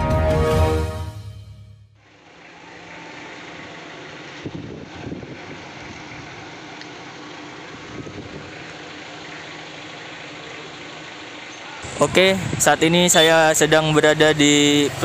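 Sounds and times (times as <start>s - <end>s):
street noise: 0.0s - 15.0s
car engine running: 2.0s - 15.0s.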